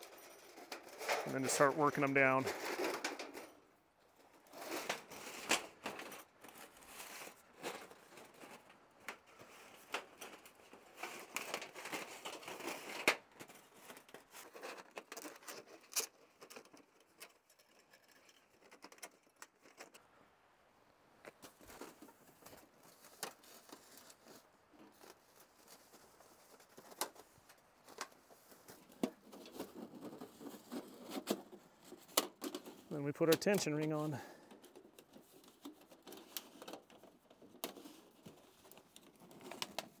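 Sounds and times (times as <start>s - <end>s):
metal pipe crinkling and scraping: 0.0s - 20.2s, 21.2s - 40.0s.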